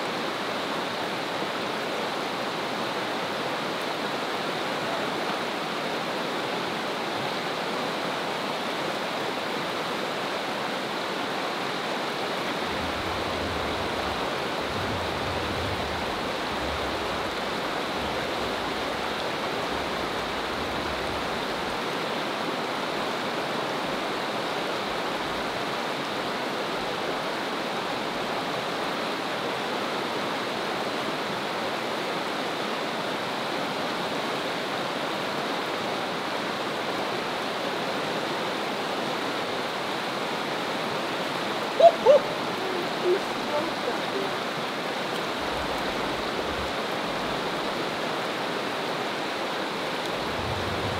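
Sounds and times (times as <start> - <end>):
creek rushing over rocks: 0.0 - 50.9.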